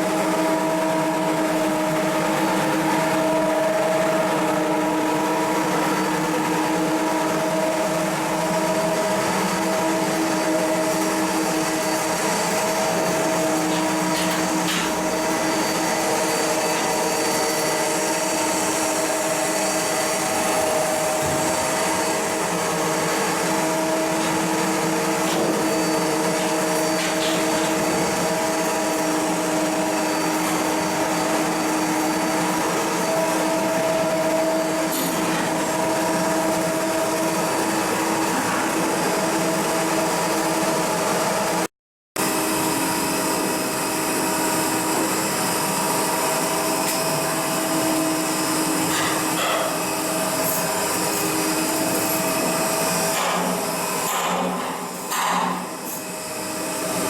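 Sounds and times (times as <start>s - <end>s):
machinery whirring hum: 0.0s - 57.0s.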